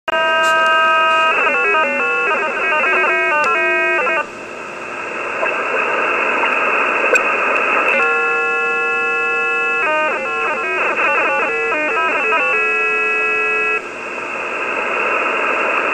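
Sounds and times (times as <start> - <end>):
radio receiver hiss: 0.1 - 15.9.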